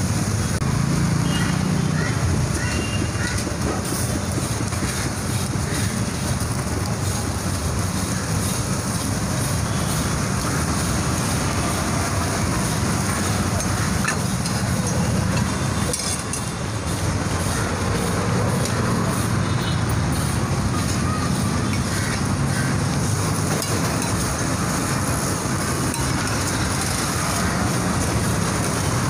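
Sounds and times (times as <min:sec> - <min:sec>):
food sizzling on griddle: 0:01.2 - 0:29.0.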